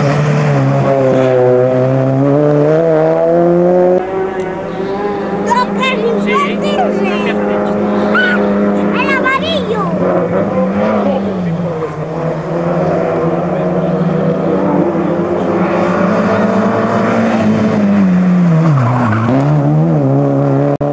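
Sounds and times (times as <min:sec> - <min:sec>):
rally car engine at high revs: 0:00.0 - 0:20.9.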